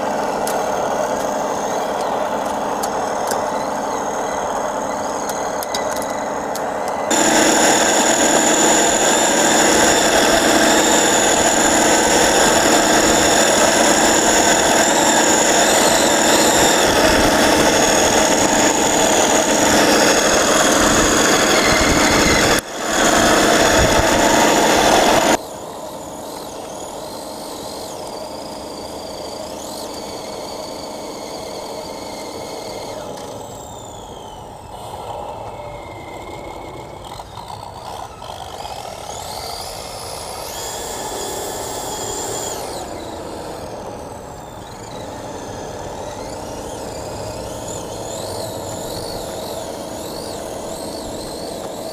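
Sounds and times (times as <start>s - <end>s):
rc truck motor whining: 0.0s - 51.9s.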